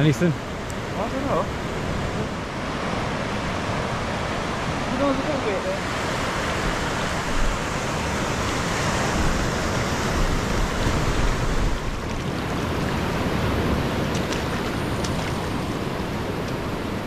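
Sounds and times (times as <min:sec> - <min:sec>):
waves breaking on beach: 0:00.0 - 0:17.0.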